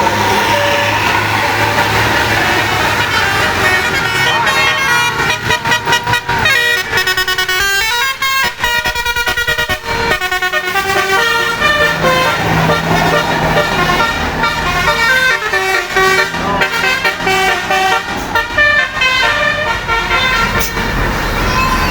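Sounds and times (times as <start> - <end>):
bus engine running: 0.0 - 21.9
multi-tone musical air horns: 0.0 - 21.9.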